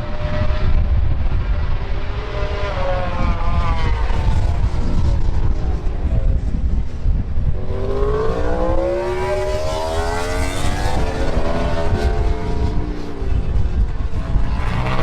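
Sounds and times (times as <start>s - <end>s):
racing motorcycle engine revving: 0.0s - 15.0s.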